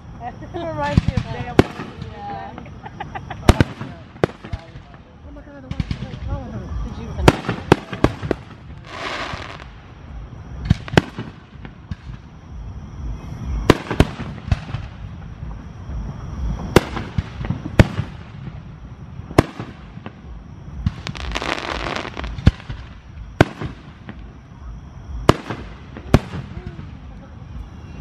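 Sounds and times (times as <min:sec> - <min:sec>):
fireworks crackling: 0:00.0 - 0:28.0
fireworks bangs: 0:00.7 - 0:27.7.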